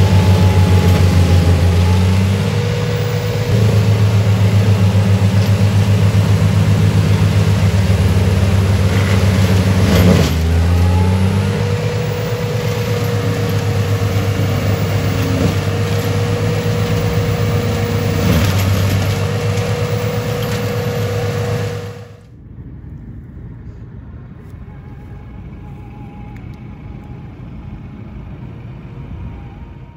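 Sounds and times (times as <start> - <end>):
diesel engine droning: 0.0 - 29.9
mulcher whine: 0.0 - 29.9.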